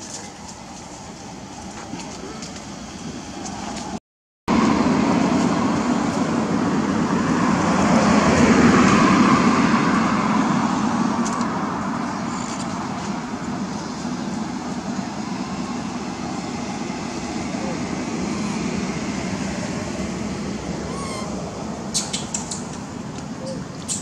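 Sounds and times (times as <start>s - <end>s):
passing road vehicle: 0.0s - 24.0s.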